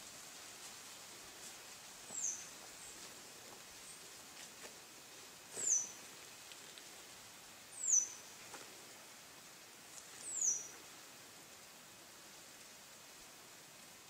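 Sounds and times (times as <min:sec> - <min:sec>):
faint background hiss: 0:00.0 - 0:14.0.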